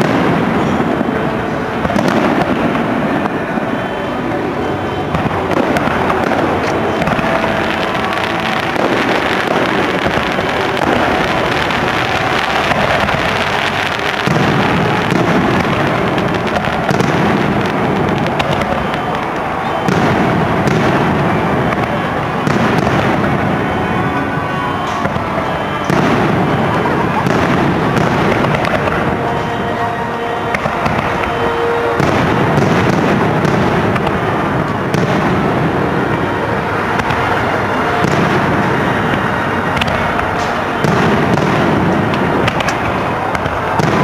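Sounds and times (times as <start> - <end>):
continuous wash of noise: 0.0 - 44.0
fireworks bursting: 0.0 - 44.0.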